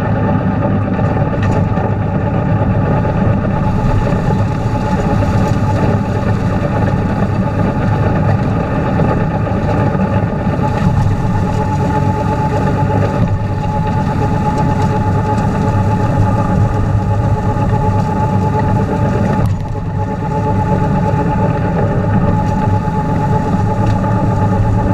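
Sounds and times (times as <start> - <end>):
high whine: 0.0 - 24.9
tractor engine rumbling: 0.0 - 24.9.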